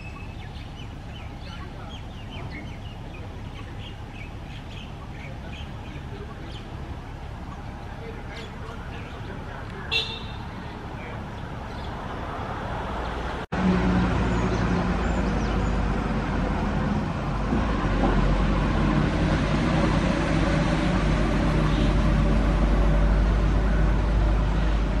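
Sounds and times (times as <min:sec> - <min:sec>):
road traffic engine rumble: 0:00.0 - 0:25.0.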